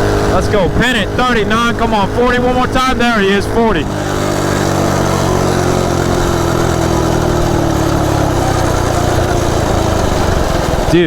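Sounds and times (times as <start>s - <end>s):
minibike engine running hard: 0.0s - 11.0s.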